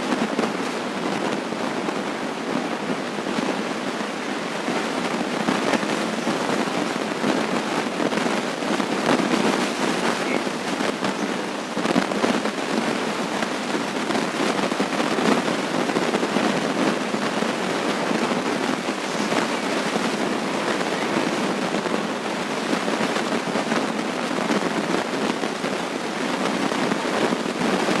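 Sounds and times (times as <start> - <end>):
crackling hiss: 0.0 - 28.0.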